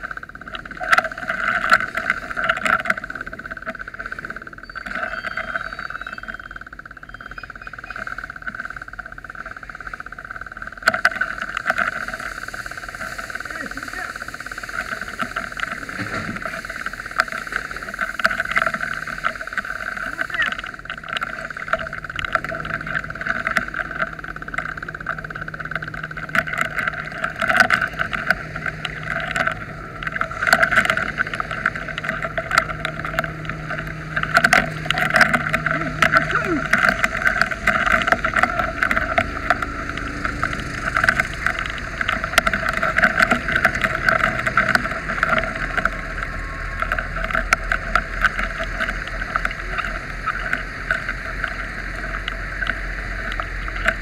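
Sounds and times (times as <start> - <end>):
fire engine humming: 0.0 - 54.0
water spraying from fire hose: 0.0 - 54.0.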